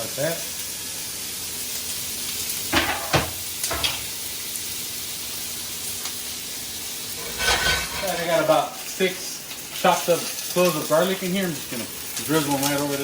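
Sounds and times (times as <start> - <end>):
bacon sizzling in a skillet: 0.0 - 13.0.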